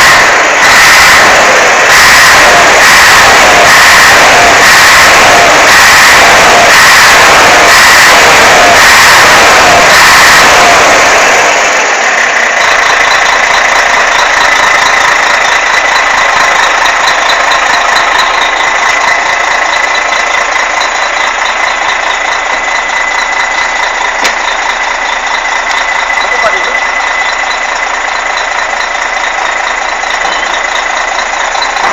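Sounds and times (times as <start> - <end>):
high whine: 0.0 - 29.0
diesel bus engine running: 0.0 - 31.9.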